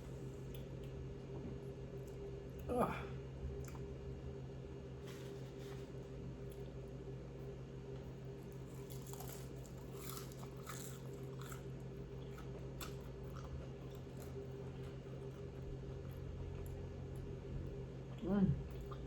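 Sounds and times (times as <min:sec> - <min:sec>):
steady low hum: 0:00.0 - 0:19.0
crunching and chewing fried chicken: 0:03.4 - 0:19.0.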